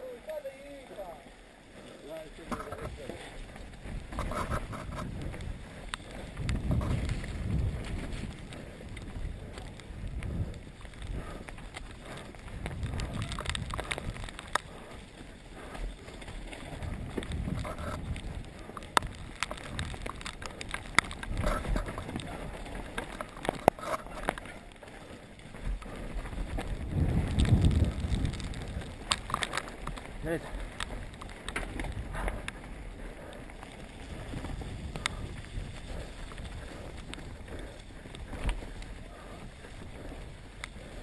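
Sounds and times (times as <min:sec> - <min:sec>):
bike rattling: 0:00.0 - 0:41.0
wind rumbling on microphone: 0:01.4 - 0:41.0.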